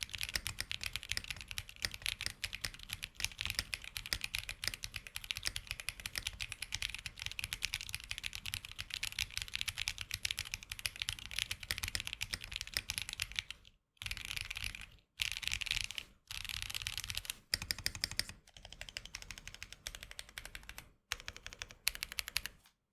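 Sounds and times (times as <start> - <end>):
mechanical keyboard typing: 0.0 - 22.7.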